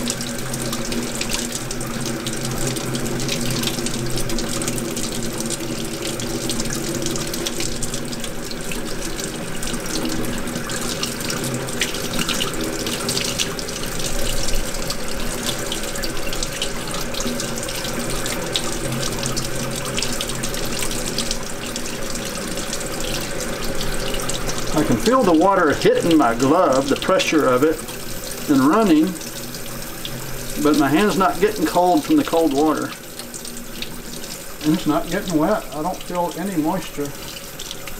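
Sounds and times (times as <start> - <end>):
tap water running into sink: 0.0 - 37.9.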